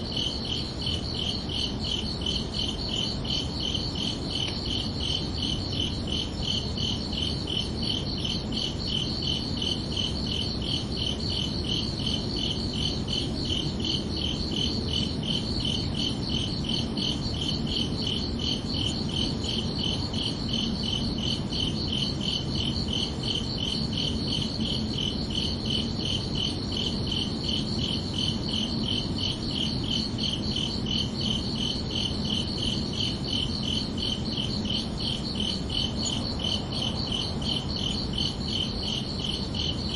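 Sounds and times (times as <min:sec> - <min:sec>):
crickets chirping: 0:00.0 - 0:39.9
low night ambience hum: 0:00.0 - 0:39.9.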